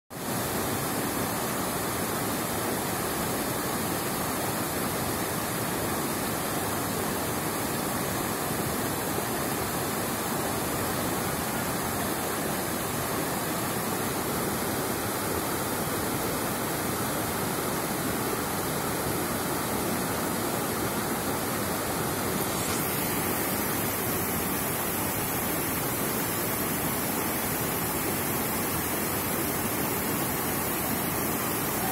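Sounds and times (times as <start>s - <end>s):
water rushing over rapids: 0.2s - 31.9s.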